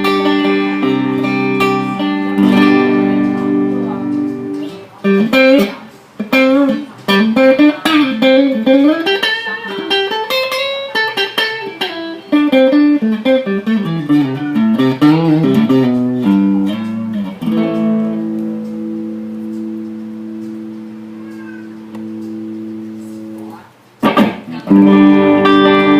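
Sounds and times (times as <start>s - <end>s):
electric guitar melody: 0.0s - 25.9s.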